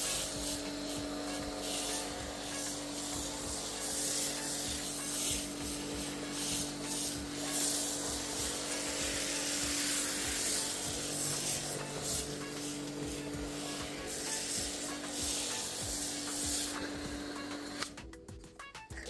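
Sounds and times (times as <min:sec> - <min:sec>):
foam cannon spraying hiss: 0:00.0 - 0:17.8
pressure washer humming: 0:00.0 - 0:18.0.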